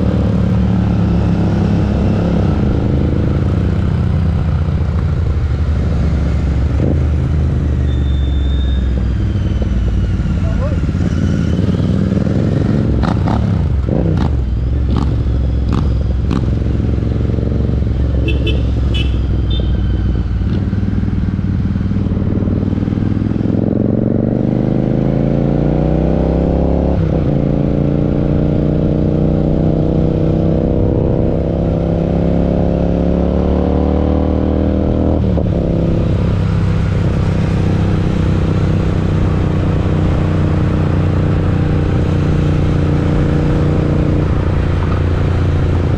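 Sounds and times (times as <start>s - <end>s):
motorcycle engine revving: 8.8s - 45.9s.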